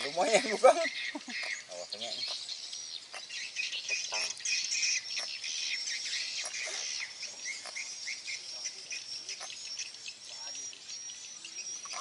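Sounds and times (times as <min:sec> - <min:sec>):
many small birds chirping: 0:00.0 - 0:12.0.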